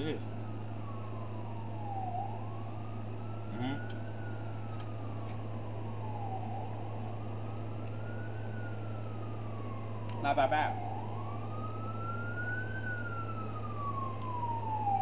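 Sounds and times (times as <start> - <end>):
siren wailing: 0.0 - 15.0
steady low hum: 0.0 - 15.0.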